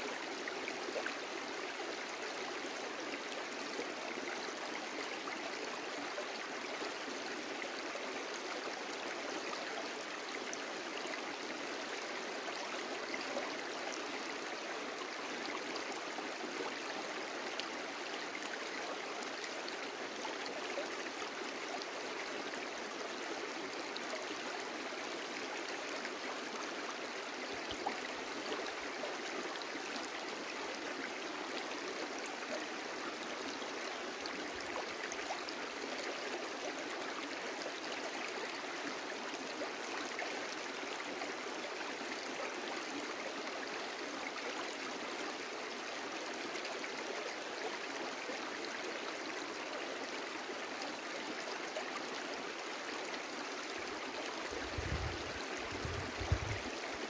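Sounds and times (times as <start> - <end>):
brook flowing: 0.0 - 57.0.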